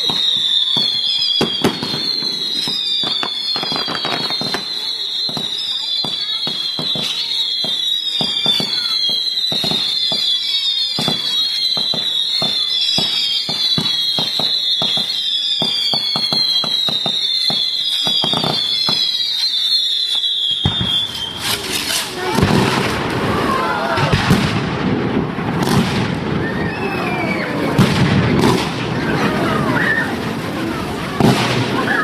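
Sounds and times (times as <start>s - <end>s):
fireworks popping and cracking: 0.0s - 32.0s
fireworks whistling: 0.0s - 32.0s.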